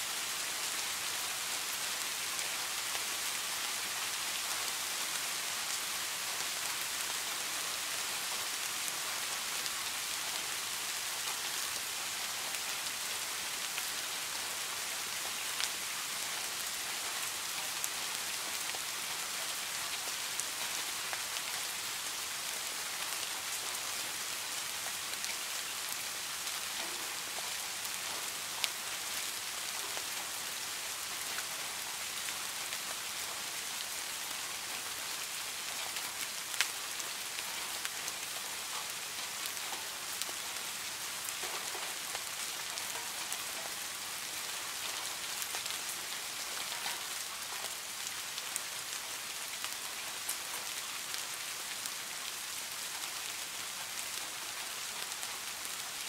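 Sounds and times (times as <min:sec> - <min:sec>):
rain falling on a pond: 0:00.0 - 0:56.0.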